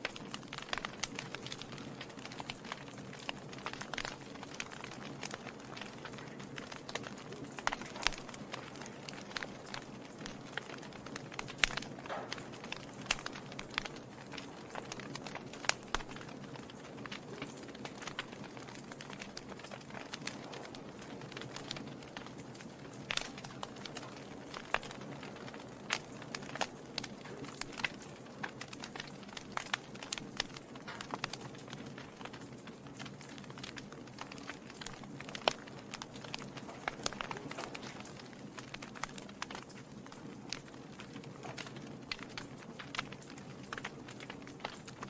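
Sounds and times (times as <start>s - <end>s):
logs crackling and popping: 0.0s - 45.0s.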